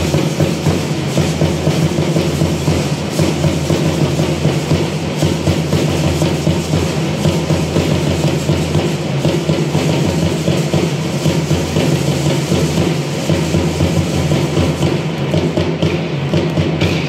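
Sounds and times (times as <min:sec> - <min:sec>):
fast steady drumbeat: 0:00.0 - 0:17.0.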